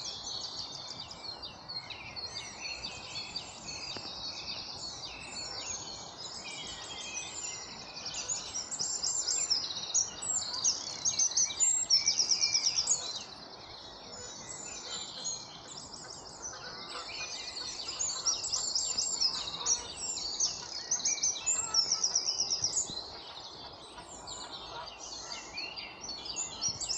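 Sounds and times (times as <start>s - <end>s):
songbirds singing: 0.0s - 26.9s.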